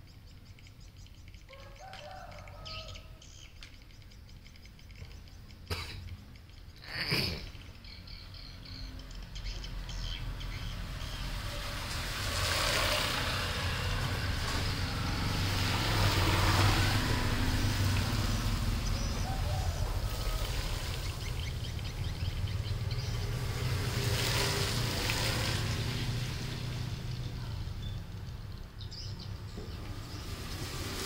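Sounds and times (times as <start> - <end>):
road traffic rumble: 0.0 - 31.0
vehicles passing: 0.0 - 31.0.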